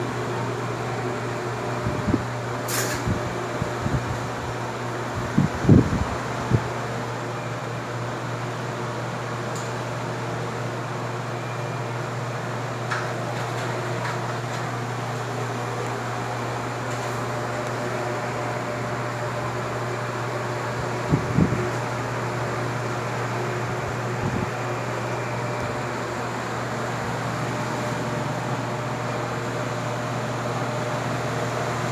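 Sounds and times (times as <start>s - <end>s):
fan air rushing: 0.0s - 31.9s
fan motor hum: 0.0s - 31.9s.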